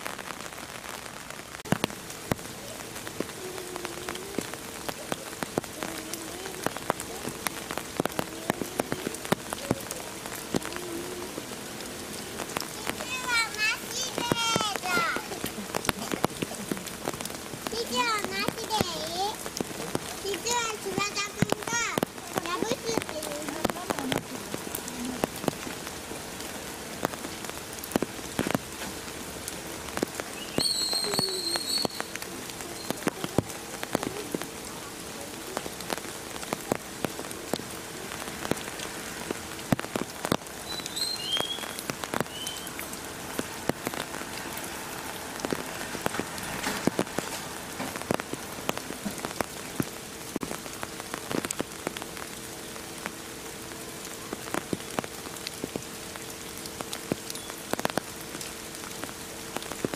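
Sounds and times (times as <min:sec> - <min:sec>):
drops and drips landing: 0:00.0 - 0:59.9
steady rain falling: 0:00.0 - 0:59.9.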